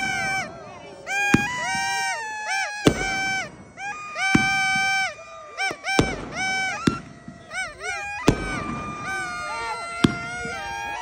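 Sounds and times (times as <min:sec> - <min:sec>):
fireworks bangs: 0:00.0 - 0:11.0
high-pitched tones: 0:00.0 - 0:11.0.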